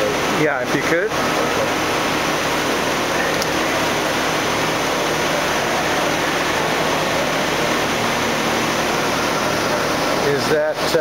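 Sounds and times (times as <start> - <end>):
coolant spraying: 0.0 - 11.0.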